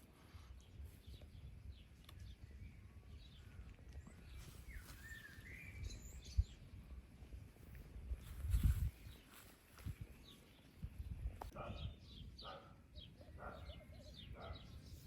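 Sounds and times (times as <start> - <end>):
low wind rumble on microphone: 0.0 - 15.0
birds chirping and whistling: 0.7 - 6.9, 8.5 - 15.0.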